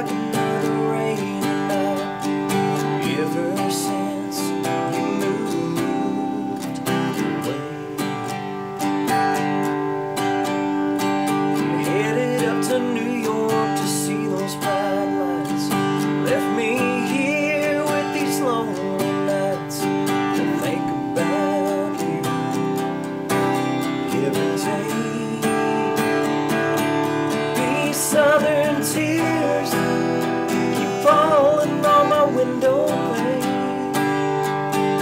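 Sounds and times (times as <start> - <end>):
man singing: 0.0 - 8.5, 11.3 - 35.0
acoustic guitar strumming: 0.0 - 35.0.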